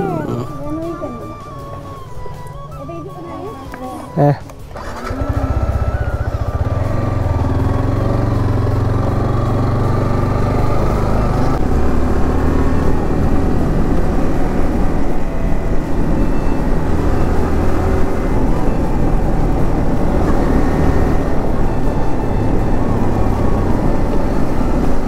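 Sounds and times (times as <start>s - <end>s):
road and wind noise: 0.0s - 25.0s
motorcycle engine running: 4.6s - 25.0s.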